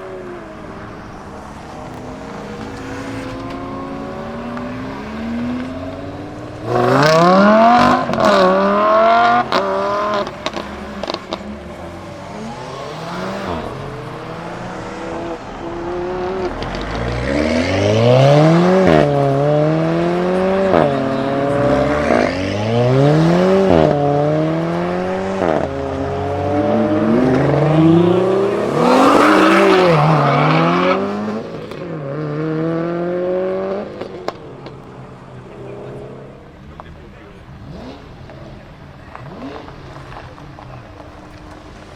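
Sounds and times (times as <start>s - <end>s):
car engines accelerating: 0.0s - 41.9s
exhaust cracks: 0.4s - 32.0s, 33.8s - 41.9s.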